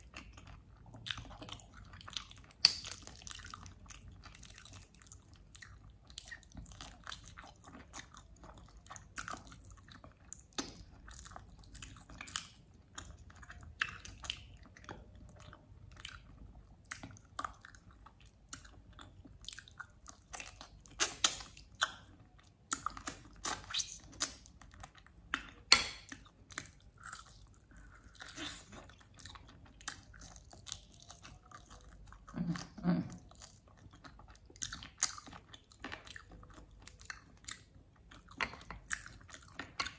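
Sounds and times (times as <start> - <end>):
chewing and biting meat: 0.0 - 39.9.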